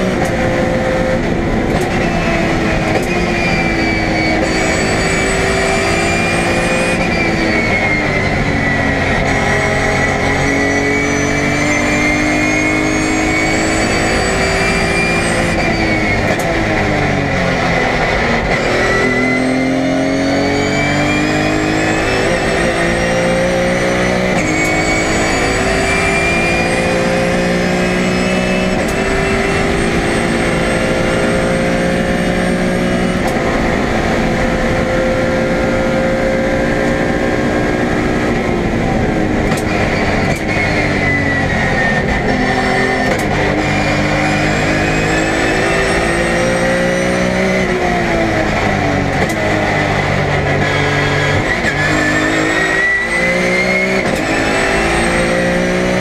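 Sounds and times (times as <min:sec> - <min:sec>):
high whine: 0:00.0 - 0:56.0
race car engine revving: 0:00.0 - 0:56.0.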